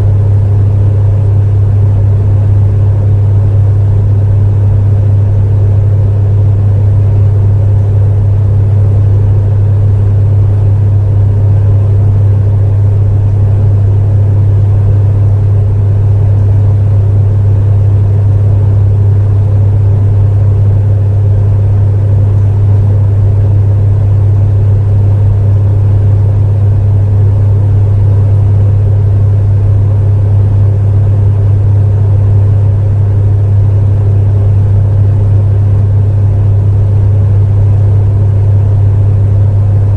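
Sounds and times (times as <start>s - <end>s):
space heater humming: 0.0s - 39.9s.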